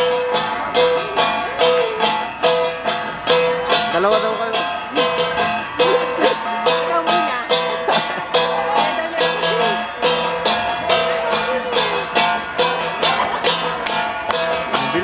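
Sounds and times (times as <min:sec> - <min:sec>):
bronze gongs beaten rhythmically: 0:00.0 - 0:15.0.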